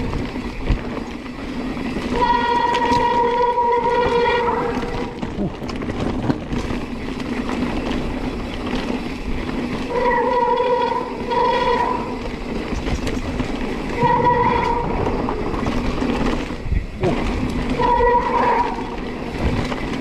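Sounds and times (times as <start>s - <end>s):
mountain bike rattling on dirt trail: 0.0s - 20.0s.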